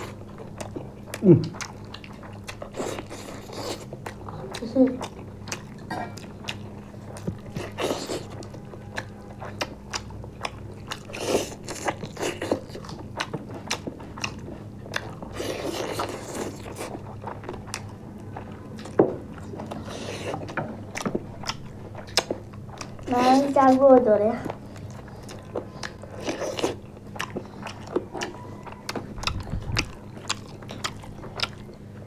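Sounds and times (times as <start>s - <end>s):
food crunching: 0.0s - 32.0s
people chewing food: 0.0s - 32.0s
steady low hum: 0.0s - 32.0s.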